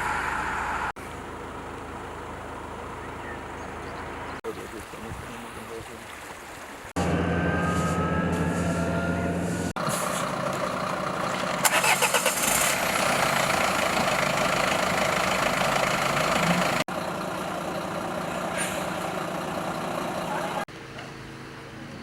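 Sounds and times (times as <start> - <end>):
vehicle engine running: 0.0 - 4.8, 6.9 - 22.0.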